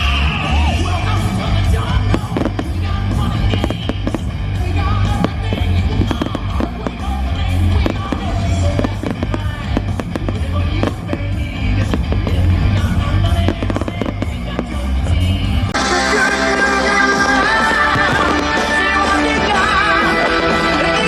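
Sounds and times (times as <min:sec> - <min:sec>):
fireworks bursting: 0:00.0 - 0:21.0
loud music with heavy bass beat: 0:00.0 - 0:21.0.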